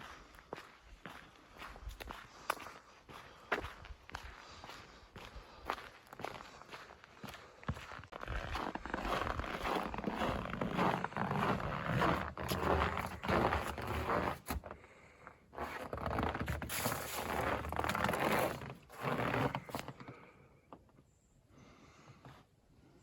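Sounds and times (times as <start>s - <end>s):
footsteps crunching in snow: 0.0s - 14.7s, 15.6s - 19.9s.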